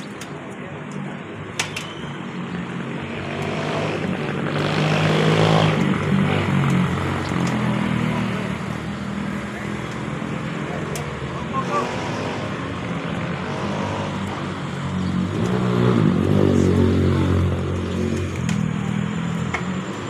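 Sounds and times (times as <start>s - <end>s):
vehicle engine hum: 2.4s - 20.0s.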